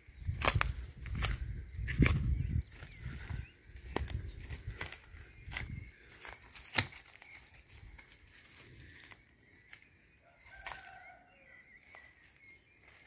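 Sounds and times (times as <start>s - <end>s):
faint bird chirps: 0.0s - 13.0s
footsteps through undergrowth: 0.0s - 13.0s.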